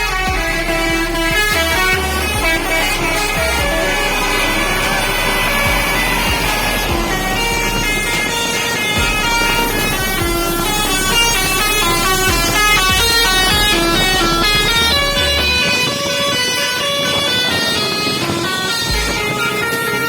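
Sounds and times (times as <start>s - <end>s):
bus engines running: 0.0s - 20.0s
multi-tone air horn melodies: 0.0s - 20.0s.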